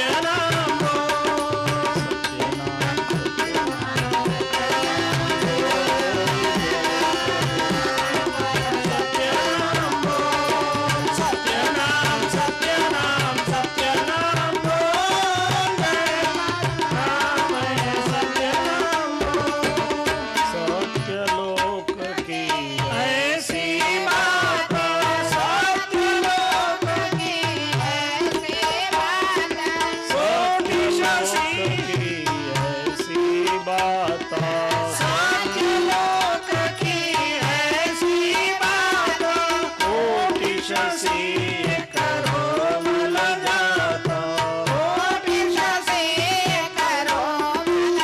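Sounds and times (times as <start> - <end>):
tabla drumming: 0.0 - 48.0.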